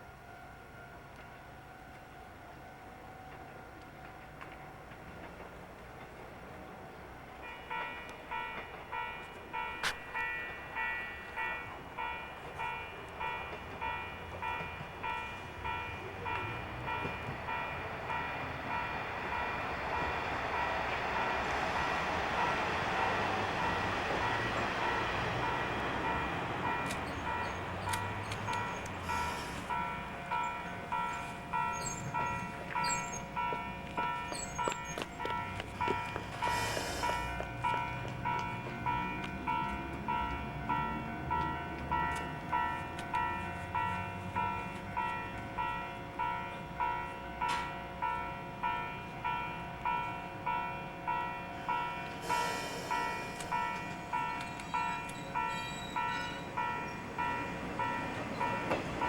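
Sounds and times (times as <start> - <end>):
level-crossing warning bell: 0.0 - 5.2, 6.7 - 59.0
train passing: 0.0 - 59.0.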